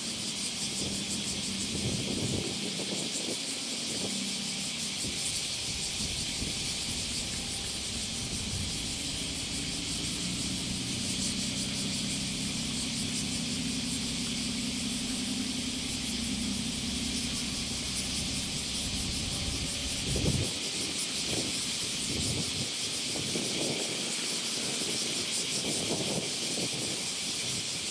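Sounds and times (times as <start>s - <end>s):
diesel engine idling hum: 0.0s - 22.6s
steady high hiss: 0.0s - 27.9s.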